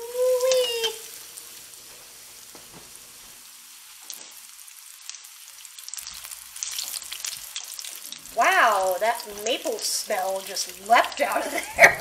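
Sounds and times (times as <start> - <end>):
deep-frying sizzle with crackling pops: 0.0 - 12.0.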